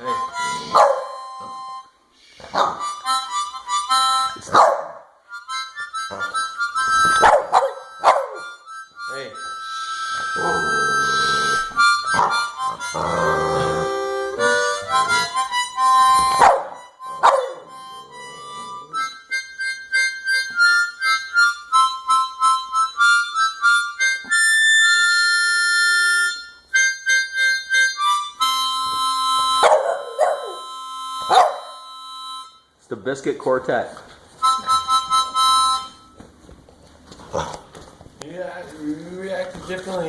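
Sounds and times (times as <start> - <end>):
harmonica playing: 0.0 - 4.6, 5.2 - 33.0, 34.3 - 36.5.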